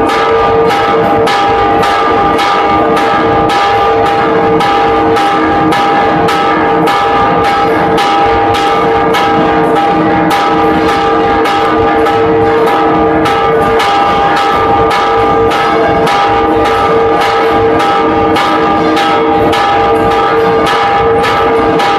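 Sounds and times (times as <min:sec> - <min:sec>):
church bells ringing fast: 0:00.0 - 0:21.9
continuous bell ringing hum: 0:00.0 - 0:21.9.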